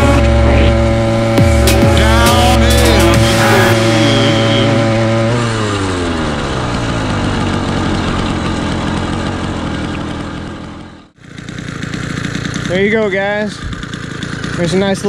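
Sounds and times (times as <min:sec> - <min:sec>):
engine idling: 0:00.0 - 0:15.0
two-stroke engine running: 0:00.0 - 0:15.0.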